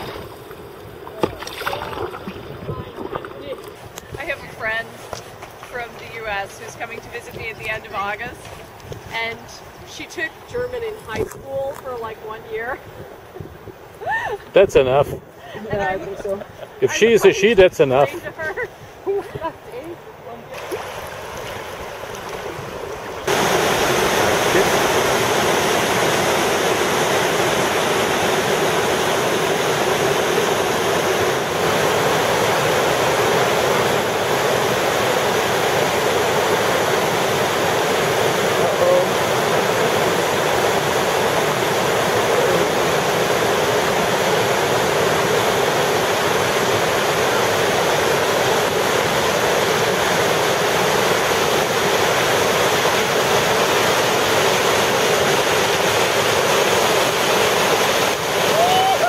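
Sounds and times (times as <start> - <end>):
river rapids rushing: 0.0 - 12.5, 13.9 - 59.0.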